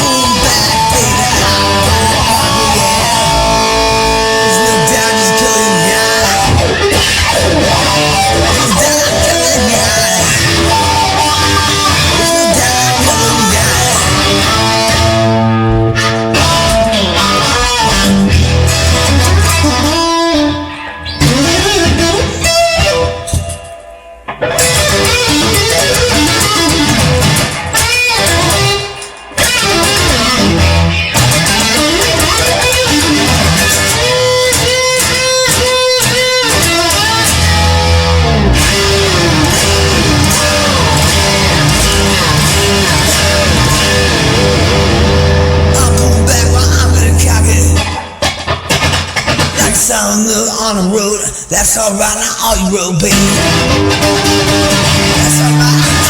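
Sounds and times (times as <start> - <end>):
electric guitar solo: 0.0 - 51.5, 52.9 - 56.0
rock backing music: 0.0 - 51.5, 52.6 - 56.0.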